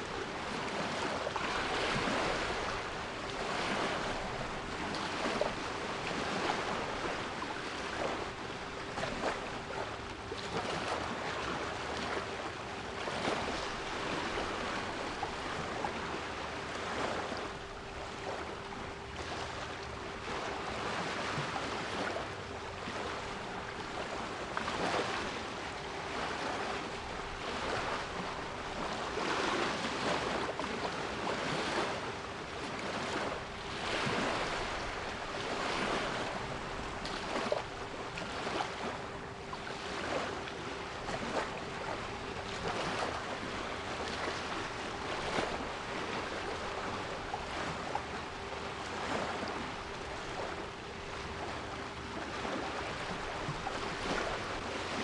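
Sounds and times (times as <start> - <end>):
sea waves washing: 0.0 - 55.0.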